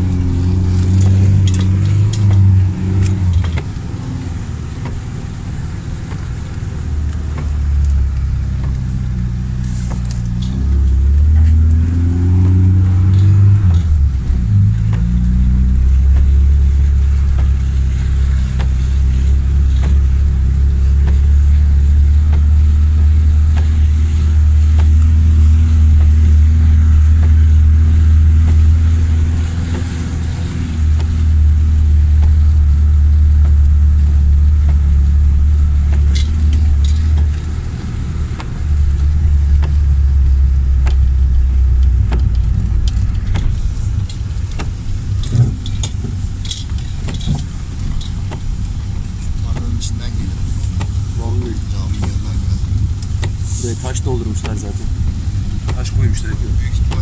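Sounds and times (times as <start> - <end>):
car engine drone: 0.0 - 57.0.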